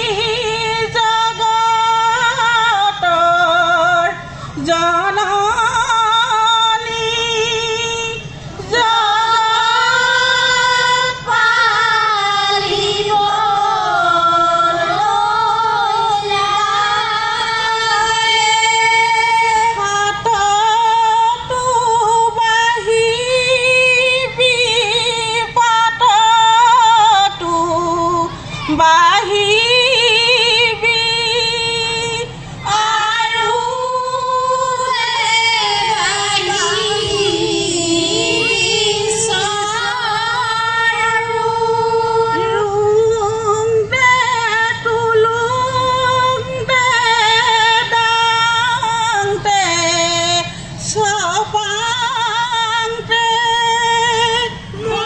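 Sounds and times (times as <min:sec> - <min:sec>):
women singing together: 0:00.0 - 0:55.0.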